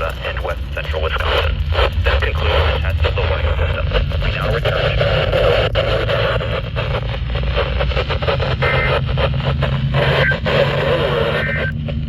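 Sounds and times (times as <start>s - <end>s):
radio hiss and crackles: 0.0s - 12.0s
steady low hum: 0.0s - 12.0s.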